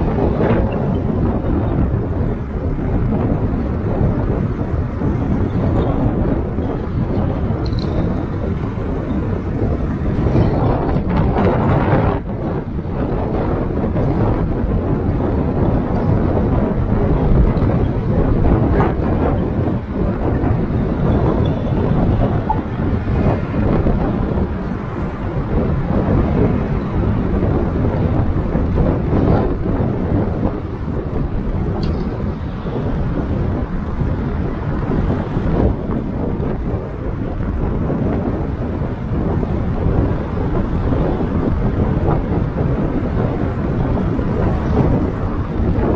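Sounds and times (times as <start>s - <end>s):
road and wind noise: 0.0s - 45.9s.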